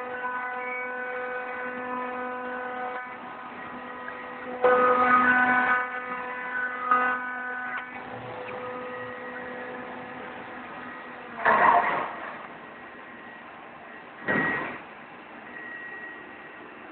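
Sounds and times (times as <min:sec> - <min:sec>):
cnc machine motors whining: 0:00.0 - 0:16.9.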